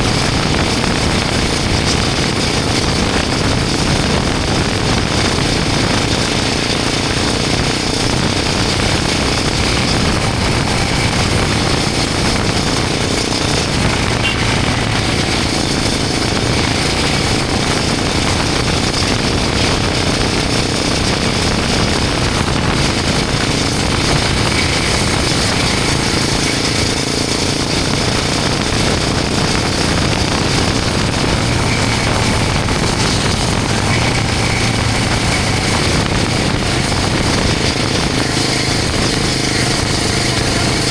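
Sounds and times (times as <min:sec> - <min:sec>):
motorcycle engine running: 0:00.0 - 0:40.9
steady rush of noise: 0:00.0 - 0:40.9.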